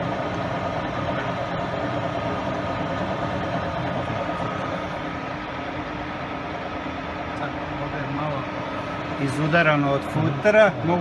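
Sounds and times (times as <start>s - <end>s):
lathe humming and whining: 0.0s - 11.0s.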